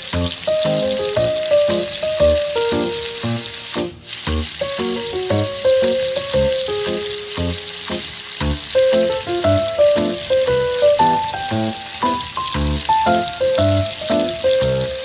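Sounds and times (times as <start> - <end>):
ribs sizzling in a wok: 0.0 - 15.0.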